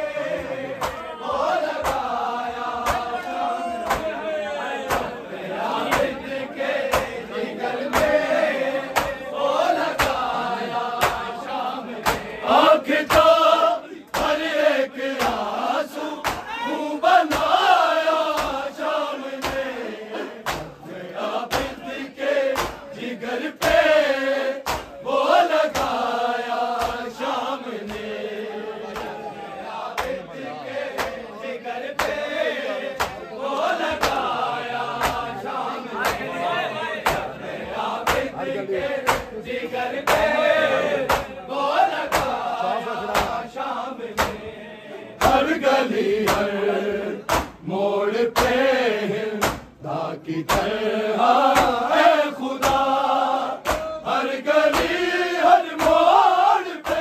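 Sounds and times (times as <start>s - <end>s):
men chanting in unison: 0.0s - 57.0s
rhythmic chest-beating: 0.0s - 57.0s.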